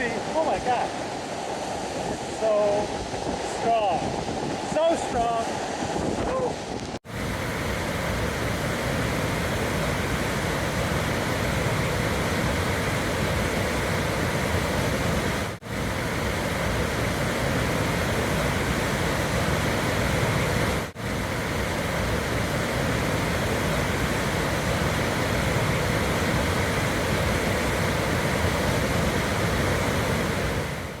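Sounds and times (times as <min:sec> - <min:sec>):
waterfall rushing: 0:00.0 - 0:04.0, 0:07.1 - 0:31.0.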